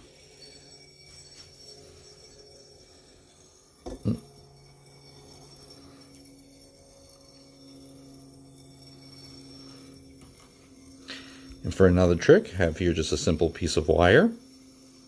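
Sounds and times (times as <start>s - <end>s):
gyroscope rotor humming: 0.0s - 15.0s.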